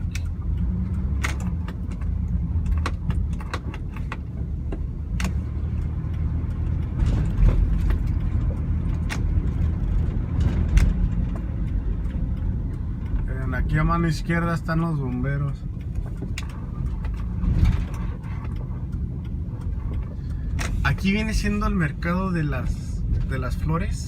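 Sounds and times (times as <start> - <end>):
light clicks and rattles: 0.0 - 24.0
truck engine and road rumble: 0.0 - 24.0.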